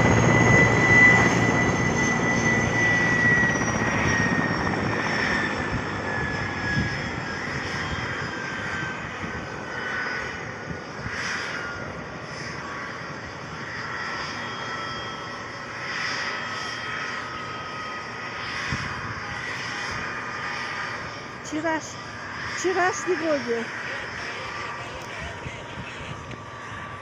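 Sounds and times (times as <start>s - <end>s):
helicopter engine and rotor: 0.0s - 27.0s.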